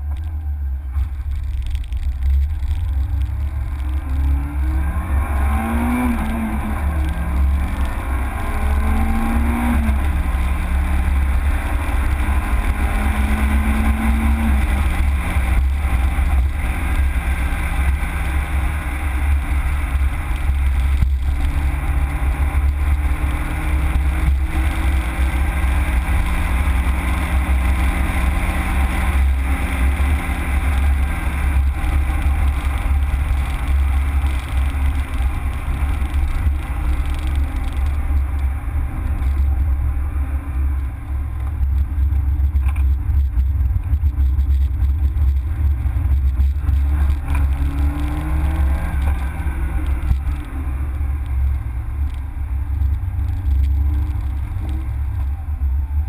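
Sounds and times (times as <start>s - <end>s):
car engine accelerating: 0.0s - 56.0s
heavy low rumble: 0.0s - 56.0s.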